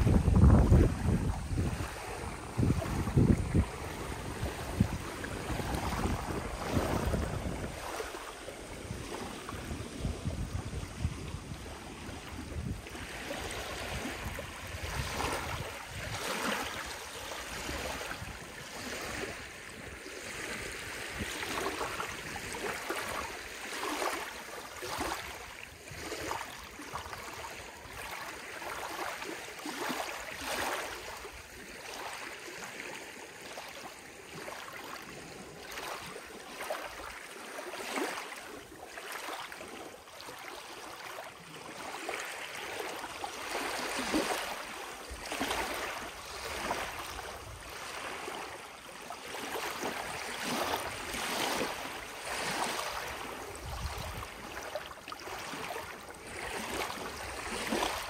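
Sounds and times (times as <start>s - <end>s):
lake waves lapping: 0.0s - 58.0s.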